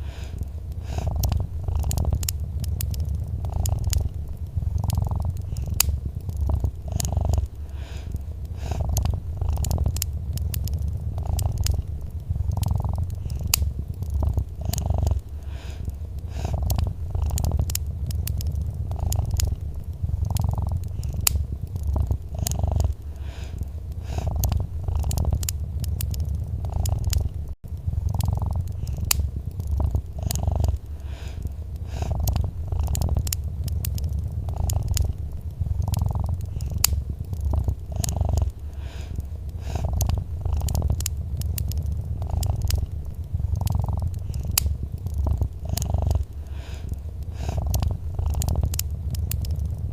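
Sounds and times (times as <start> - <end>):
cat purring: 0.0 - 49.9
wood fire crackling: 0.0 - 49.9.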